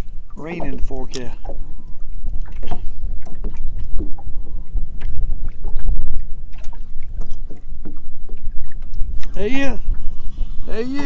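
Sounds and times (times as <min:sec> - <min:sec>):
waves slapping against boat hull: 0:00.0 - 0:10.8
wind buffeting microphone: 0:00.0 - 0:11.0.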